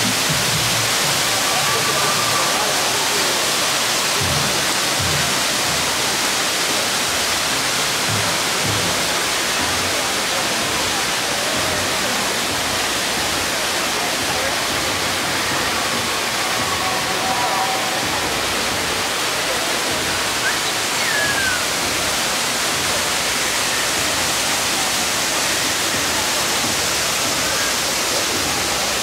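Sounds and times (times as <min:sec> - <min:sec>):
music: 0:00.0 - 0:29.0.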